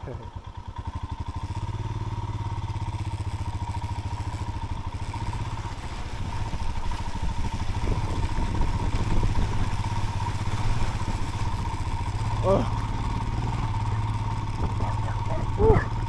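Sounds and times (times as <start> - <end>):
motorcycle engine under load: 0.0 - 16.0.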